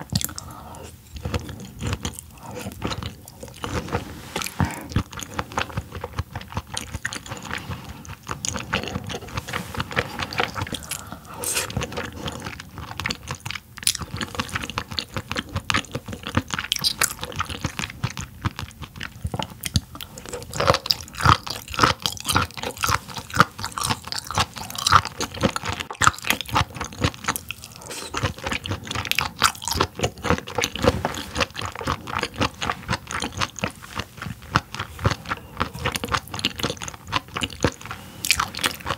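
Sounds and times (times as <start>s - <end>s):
chewing with mouth clicks: 0.0s - 38.9s.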